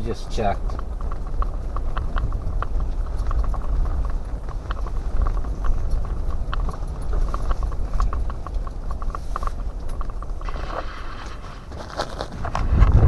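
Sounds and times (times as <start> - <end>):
light irregular ticks: 0.0 - 13.0
wind buffeting a tent: 0.0 - 13.0.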